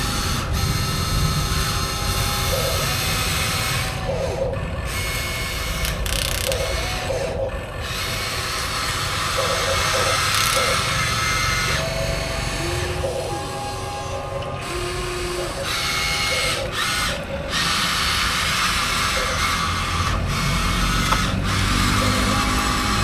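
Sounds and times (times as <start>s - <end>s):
electric motors grinding whine: 0.0s - 23.0s
higher motor whines: 0.0s - 23.0s.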